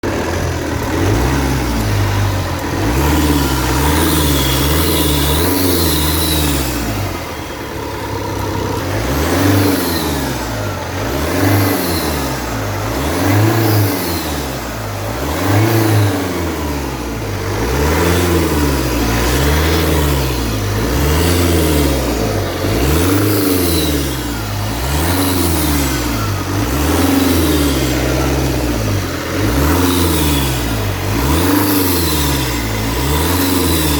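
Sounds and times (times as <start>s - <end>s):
diesel engine revving: 0.0s - 33.9s
engine intake noise: 0.0s - 33.9s.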